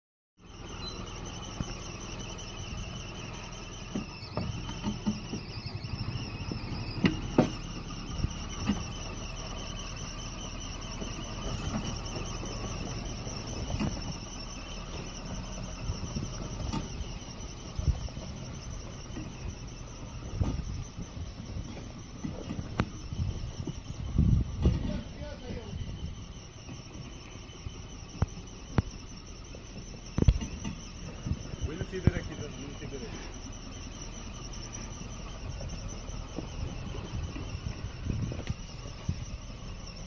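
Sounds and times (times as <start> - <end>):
high insect drone: 0.4 - 40.0
suv engine running low: 0.4 - 40.0
wheels and suspension knocking: 0.4 - 40.0.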